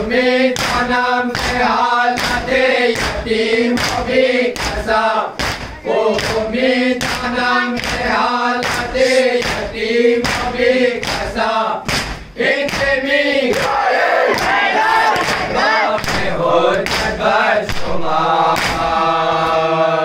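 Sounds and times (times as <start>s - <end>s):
men chanting together: 0.0s - 20.0s.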